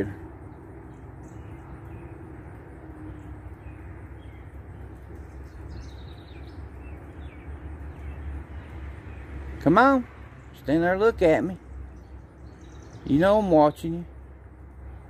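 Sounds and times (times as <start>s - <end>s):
steady low rumble: 0.0s - 13.1s.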